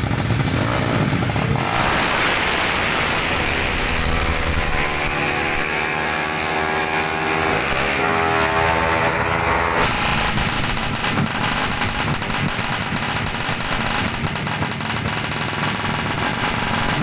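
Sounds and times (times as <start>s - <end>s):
motorcycle engines racing: 0.0s - 17.0s.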